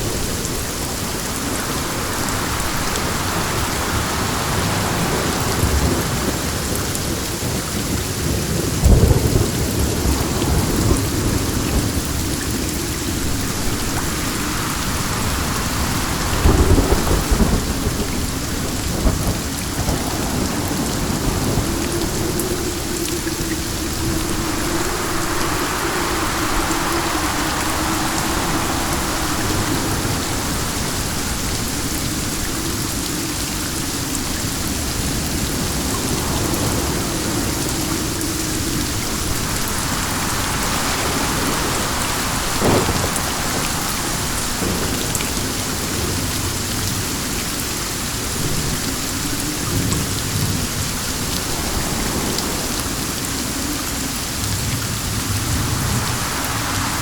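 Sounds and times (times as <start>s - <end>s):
steady rain: 0.0s - 57.0s
wind: 0.0s - 57.0s.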